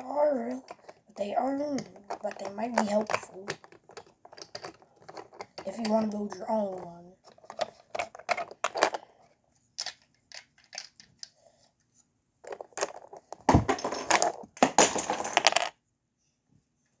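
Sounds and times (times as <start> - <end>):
plastic bricks clicking and clattering: 0.3 - 9.0, 9.8 - 11.4, 12.4 - 15.8.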